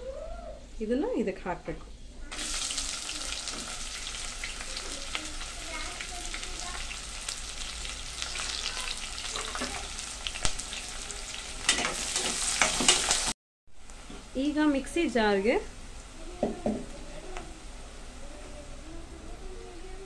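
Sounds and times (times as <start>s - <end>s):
onions sizzling in oil: 2.3s - 20.0s.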